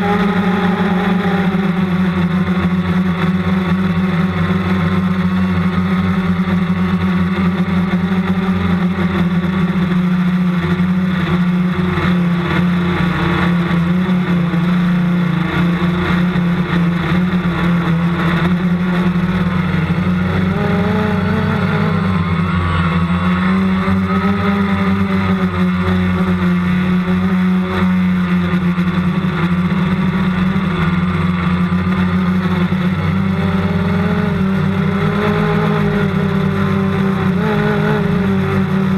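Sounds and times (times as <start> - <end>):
model aircraft motor drone: 0.0 - 38.9.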